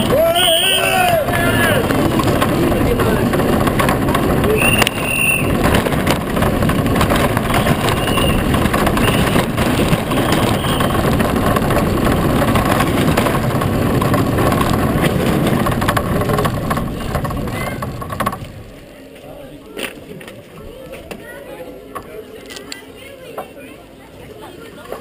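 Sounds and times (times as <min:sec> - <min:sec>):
cart rumbling over asphalt: 0:00.0 - 0:25.0.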